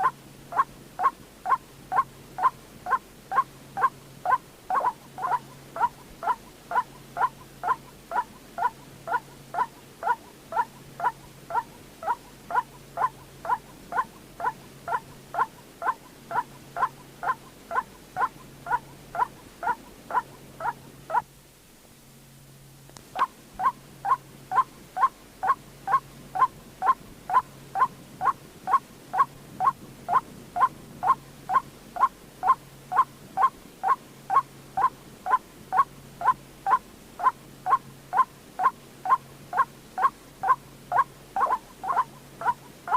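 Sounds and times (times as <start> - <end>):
waterhen calling: 0.0 - 21.2, 23.2 - 42.9.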